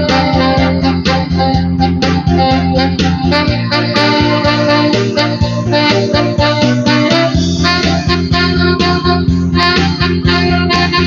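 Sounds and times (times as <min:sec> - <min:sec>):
backing track with keyboard and beat: 0:00.0 - 0:11.0
saxophone playing melody: 0:00.0 - 0:11.0.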